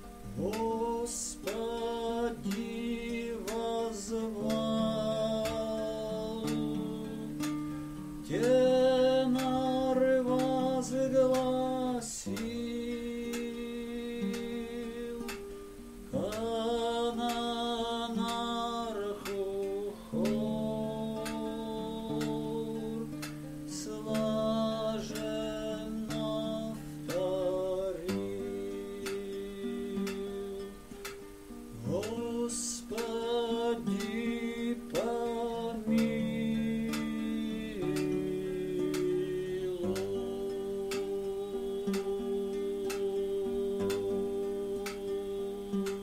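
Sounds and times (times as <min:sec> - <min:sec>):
man singing: 0:00.0 - 0:31.2, 0:31.8 - 0:46.0
acoustic guitar: 0:00.0 - 0:46.0.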